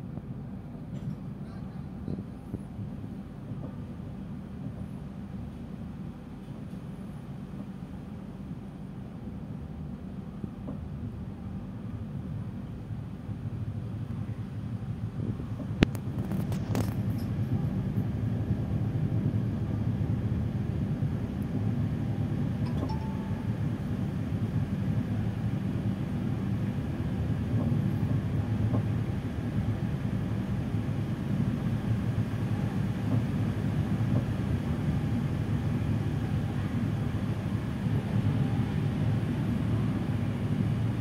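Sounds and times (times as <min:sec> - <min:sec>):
train coach rumbling from inside: 0:00.0 - 0:41.0.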